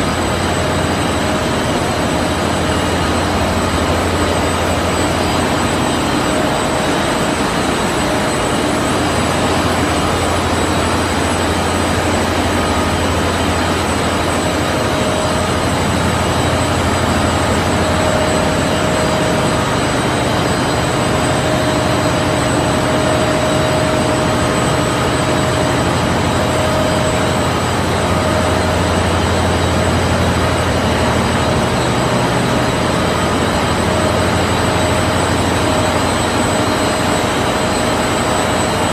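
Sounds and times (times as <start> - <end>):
washing machine running with whine: 0.0 - 38.9.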